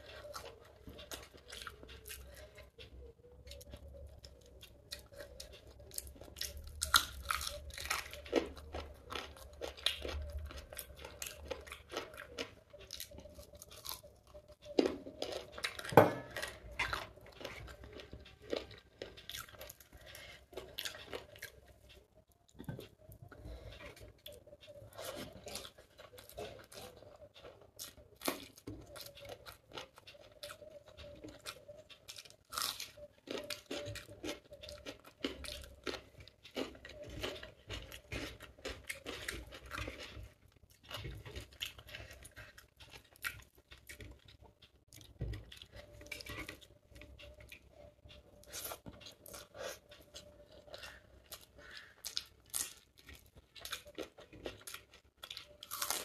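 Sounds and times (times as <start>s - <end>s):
person chewing with mouth clicks: 0.0s - 56.0s.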